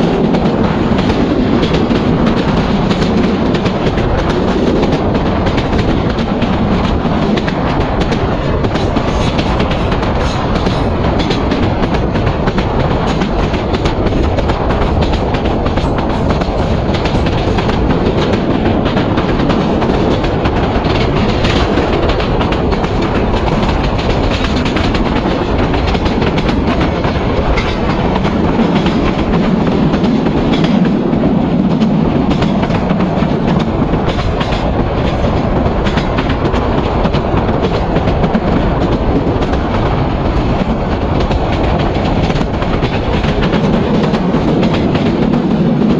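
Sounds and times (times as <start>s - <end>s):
train rumble and rush: 0.0s - 45.9s
wheels clacking over rail joints: 0.0s - 45.9s.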